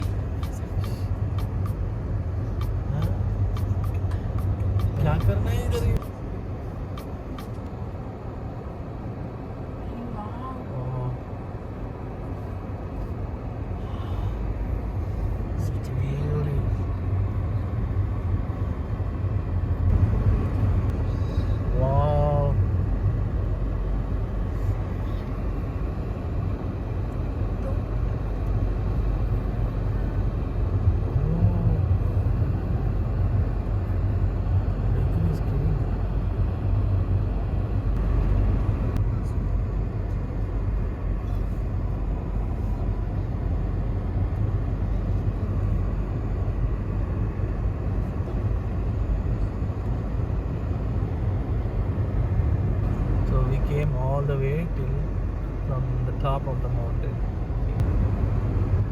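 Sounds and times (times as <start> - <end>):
car road noise from inside: 0.0 - 58.9.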